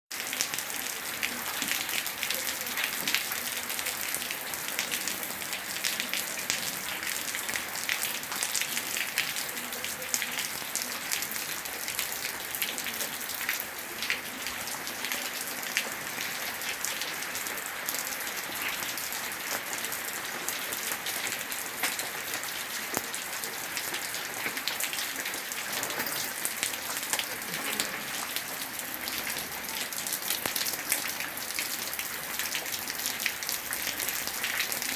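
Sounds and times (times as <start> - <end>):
gentle rain falling: 0.1 - 34.9.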